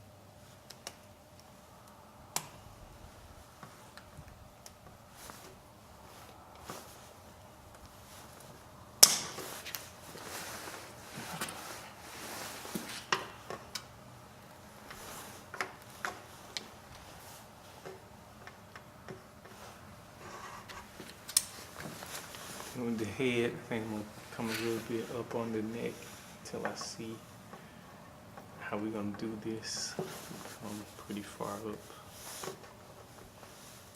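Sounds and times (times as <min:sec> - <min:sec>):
scraping rustles: 0:03.0 - 0:33.9.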